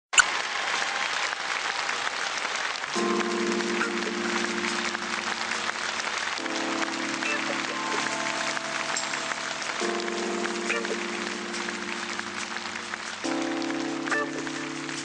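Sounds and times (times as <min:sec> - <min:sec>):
audience applauding: 0:00.2 - 0:15.0
held wavering chord: 0:03.0 - 0:15.0.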